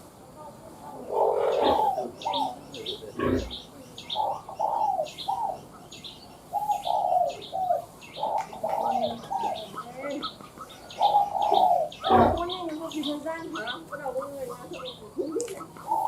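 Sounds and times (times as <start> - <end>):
small birds chirping: 0.0 - 16.0
dove cooing: 0.8 - 16.0.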